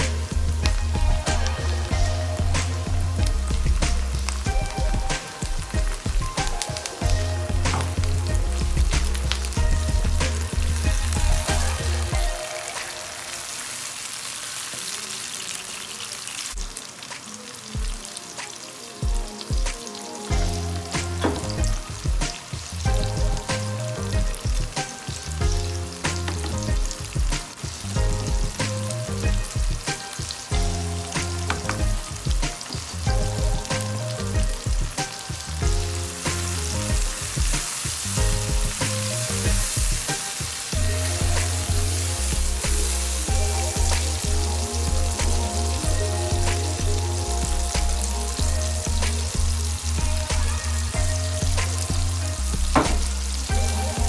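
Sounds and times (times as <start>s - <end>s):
background music with bass beat: 0.0s - 13.0s, 19.0s - 54.0s
vegetables sizzling in a frying pan: 0.0s - 54.0s.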